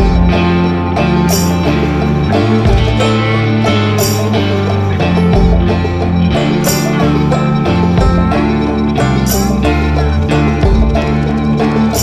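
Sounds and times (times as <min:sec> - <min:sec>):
blues-folk rock music: 0:00.0 - 0:12.0
plucked guitar: 0:00.0 - 0:12.0
steady low bass: 0:00.0 - 0:12.0.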